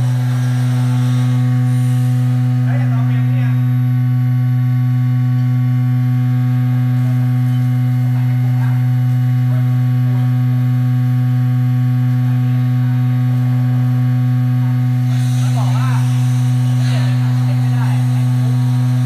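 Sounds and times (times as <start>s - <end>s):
vibration exciter humming: 0.0s - 19.0s.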